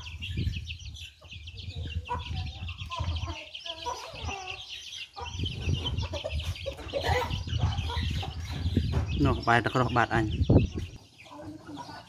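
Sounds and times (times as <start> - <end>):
chicks peeping: 0.0 - 12.0
hens clucking: 0.0 - 12.0.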